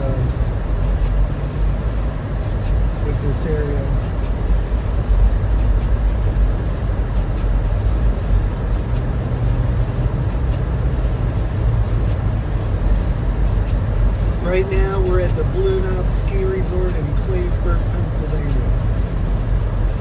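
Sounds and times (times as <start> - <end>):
car engine and road rumble: 0.0 - 20.0
low hum: 0.0 - 20.0.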